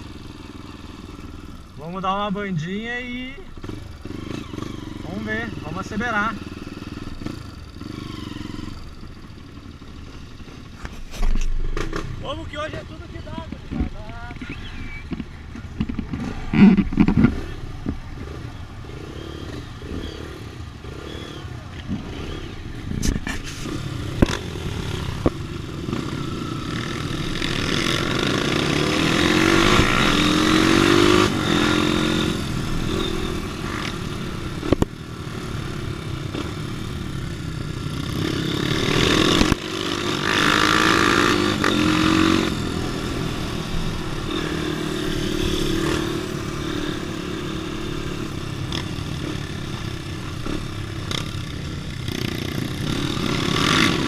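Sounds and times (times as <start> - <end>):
dirt bike engine revving: 0.0 - 13.8, 14.4 - 54.0.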